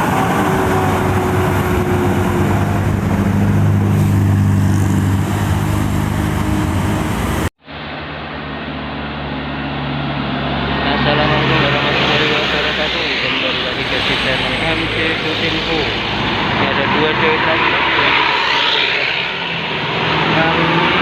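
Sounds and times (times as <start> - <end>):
bus engine running: 0.0 - 7.5, 9.4 - 21.0
road noise: 0.0 - 21.0.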